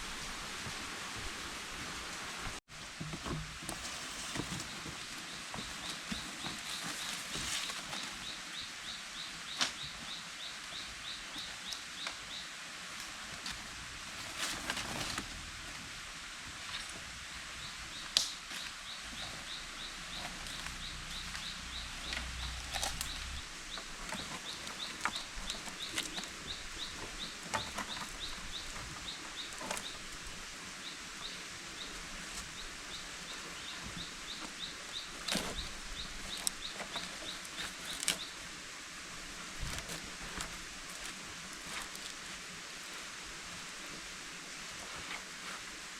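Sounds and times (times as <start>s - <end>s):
steady hiss: 0.0s - 45.9s.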